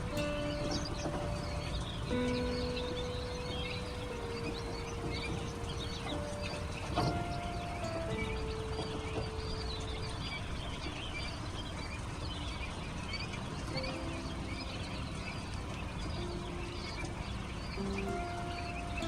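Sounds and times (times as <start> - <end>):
chicks peeping: 0.0 - 19.0
soft background music: 0.0 - 19.0.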